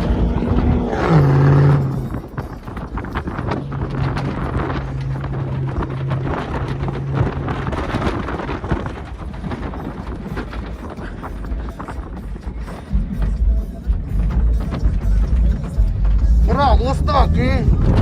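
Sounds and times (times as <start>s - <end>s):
motor vehicle engine running: 0.0s - 18.0s
wind buffeting microphone: 0.0s - 18.0s.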